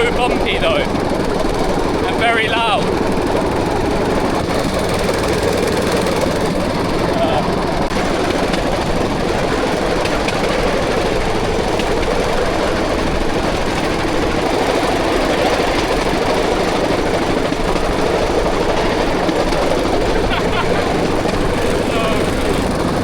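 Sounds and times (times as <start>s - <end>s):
small engine running: 0.0s - 23.0s
wheels rattling over track: 0.0s - 23.0s.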